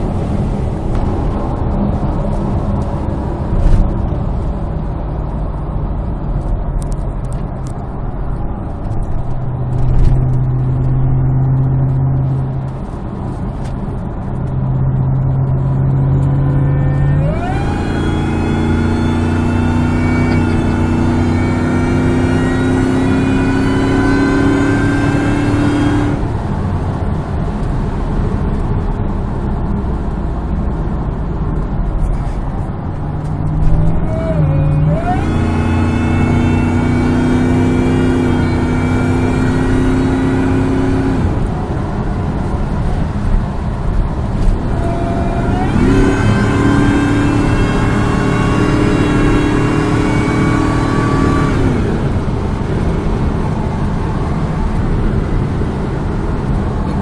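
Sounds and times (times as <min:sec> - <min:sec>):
engine and road noise: 0:00.0 - 0:57.0.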